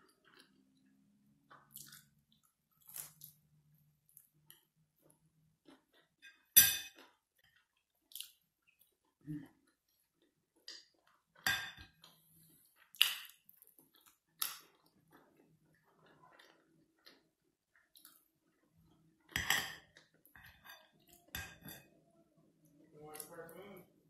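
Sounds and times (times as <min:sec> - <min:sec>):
quiet chewing: 0:00.0 - 0:23.4.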